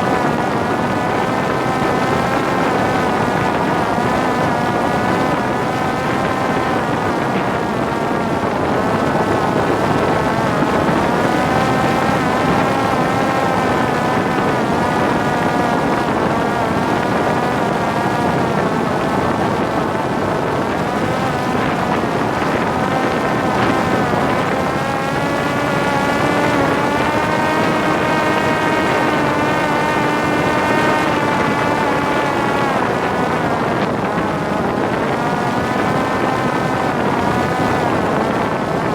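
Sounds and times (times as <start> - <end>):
drone propeller whining: 0.0 - 38.9
wind rushing over microphone: 0.0 - 38.9.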